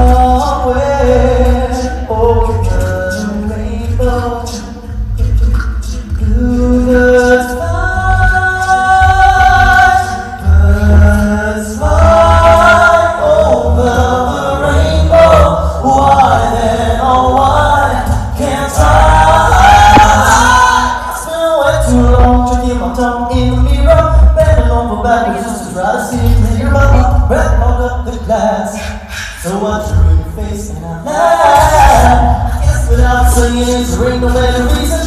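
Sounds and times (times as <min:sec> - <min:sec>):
male group singing harmony: 0:00.0 - 0:35.0.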